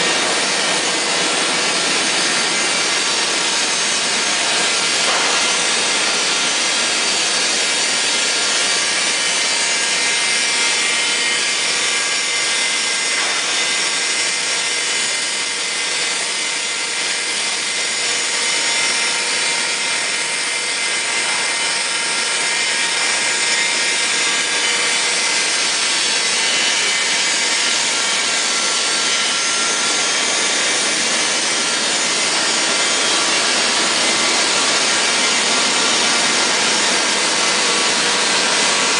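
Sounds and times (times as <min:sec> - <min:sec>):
grinding machine on steel: 0:00.0 - 0:38.9.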